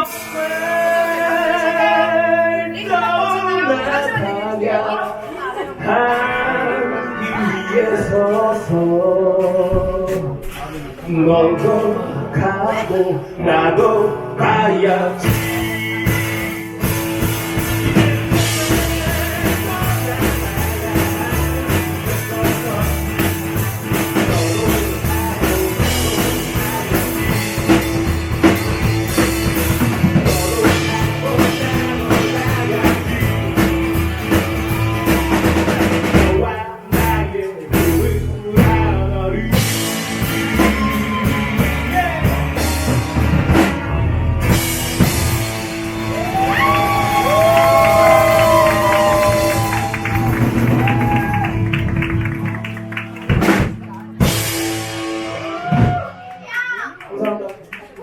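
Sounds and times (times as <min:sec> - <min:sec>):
rock band instrumental: 0:00.0 - 0:04.2, 0:13.6 - 0:56.9.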